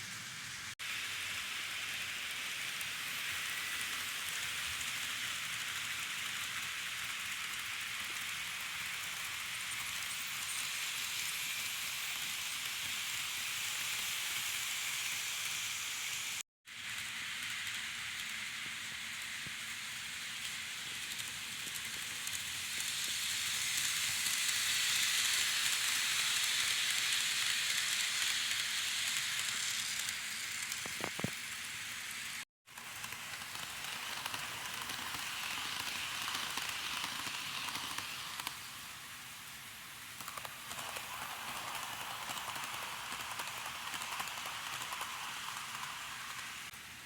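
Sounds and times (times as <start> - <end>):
model train running on track: 0.0 - 47.0.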